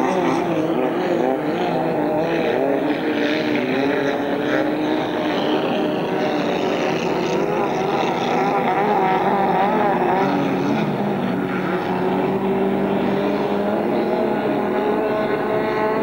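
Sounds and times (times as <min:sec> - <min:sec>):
powerboat engine running: 0:00.0 - 0:16.0.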